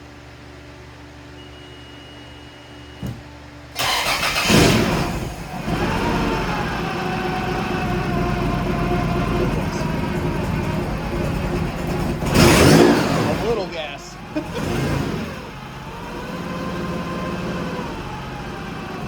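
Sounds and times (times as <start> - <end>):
car engine starting and idling: 3.7 - 19.0.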